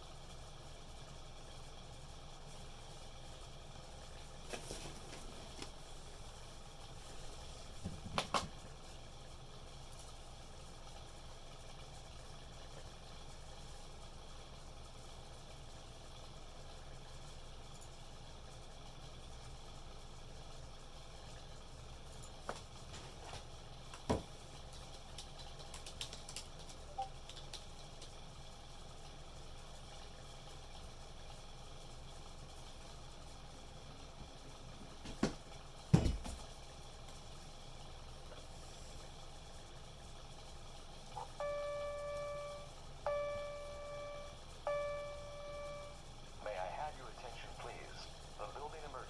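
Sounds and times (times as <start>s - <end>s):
quiet background hum: 0.0s - 49.0s.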